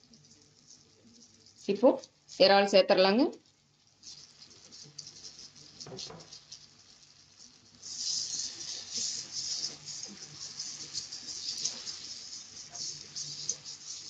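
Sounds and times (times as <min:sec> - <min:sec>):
prawns sizzling in a wok: 0:00.0 - 0:14.0
spatula stirring: 0:00.0 - 0:14.0.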